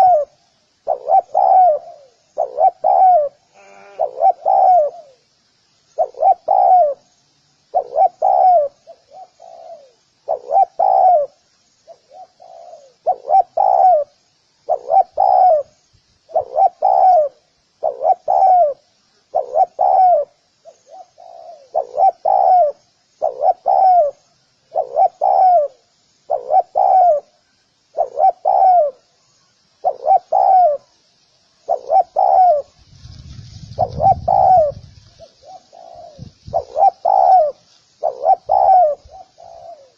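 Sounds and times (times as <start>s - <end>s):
dove cooing: 0.0s - 5.2s, 6.0s - 7.1s, 7.7s - 29.2s, 29.8s - 31.0s, 31.6s - 39.9s
faint high chirping: 0.0s - 39.9s.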